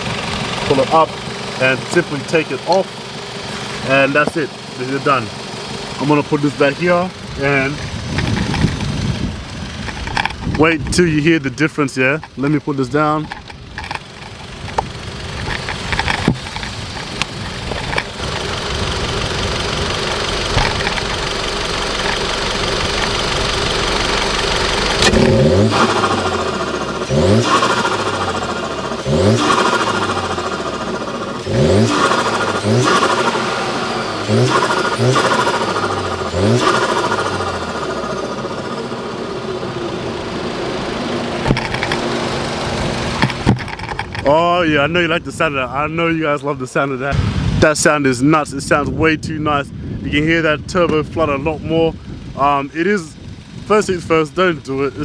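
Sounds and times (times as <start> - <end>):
turbocharged car engine revving: 0.0 - 46.2.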